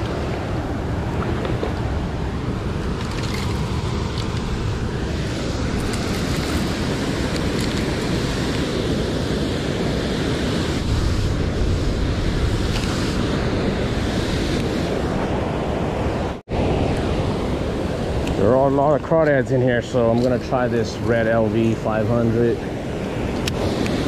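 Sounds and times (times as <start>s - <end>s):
water rushing: 0.0s - 24.0s
wind buffeting microphone: 0.0s - 24.0s.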